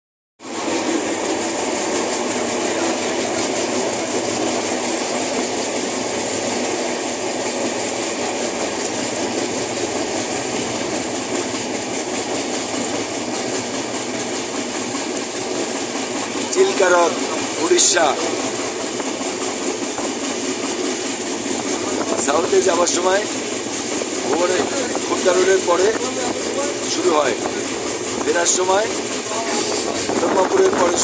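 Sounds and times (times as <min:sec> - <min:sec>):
train wheels on rails: 0:00.4 - 0:31.0.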